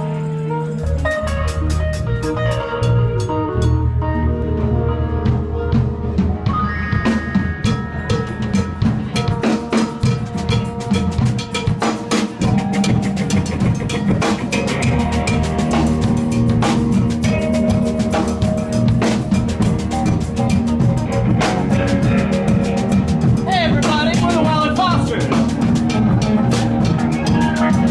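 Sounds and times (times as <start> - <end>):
drum kit beat: 0.0 - 4.0, 4.6 - 27.9
bass line: 0.0 - 27.9.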